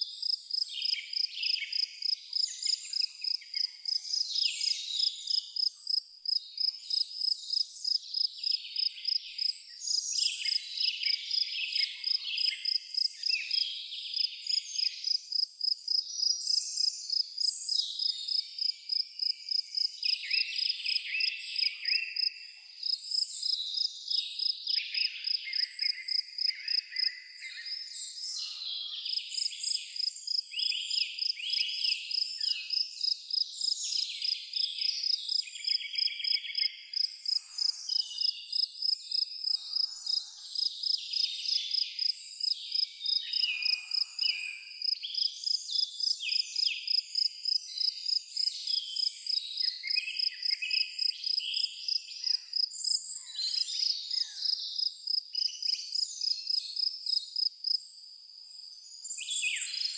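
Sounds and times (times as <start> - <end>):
birds singing and calling: 0.0 - 57.2, 58.8 - 59.9
insect chirping: 0.2 - 11.4, 12.0 - 59.9.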